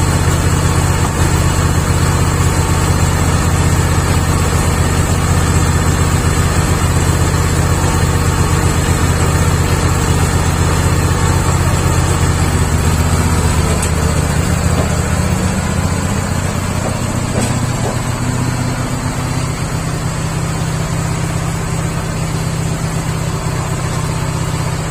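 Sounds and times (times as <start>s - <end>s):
sawmill machine hum: 0.0s - 24.9s.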